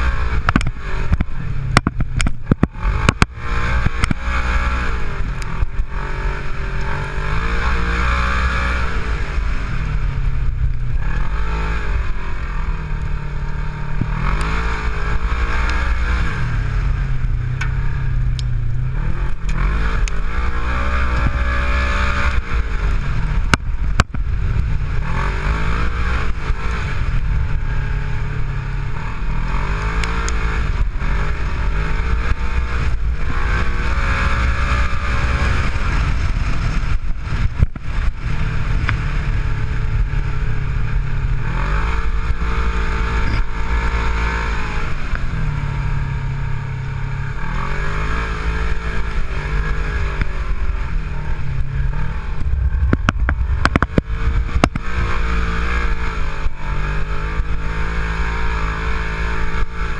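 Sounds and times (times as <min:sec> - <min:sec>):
off-road vehicle engine revving: 0:00.0 - 0:59.9
wind and drivetrain noise: 0:00.0 - 0:59.9.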